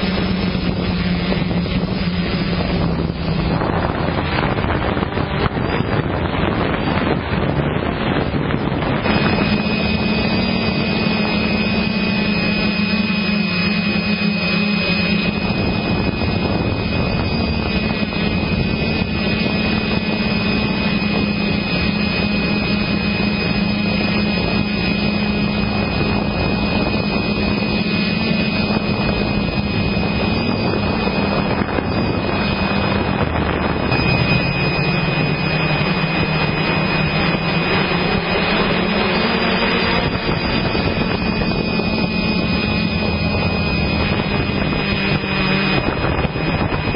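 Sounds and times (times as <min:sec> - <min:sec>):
heavy rushing noise: 0:00.0 - 0:46.9
motocross bike engine running: 0:00.0 - 0:46.9.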